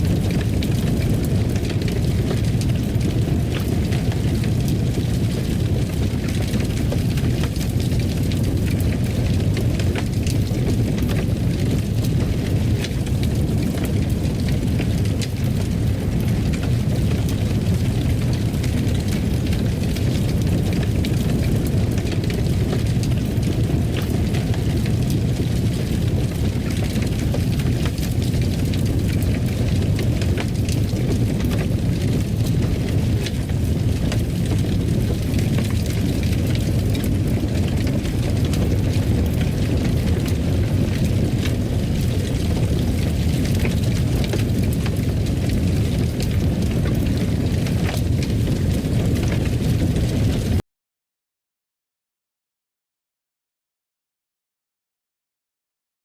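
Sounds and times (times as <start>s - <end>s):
fire burning with crackles: 0.0s - 50.6s.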